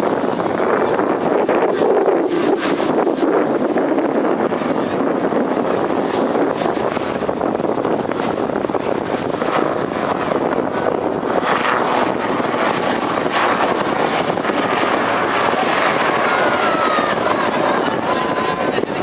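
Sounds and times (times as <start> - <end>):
helicopter rotor and engines: 0.0 - 19.0
wind buffeting microphone: 0.0 - 19.0.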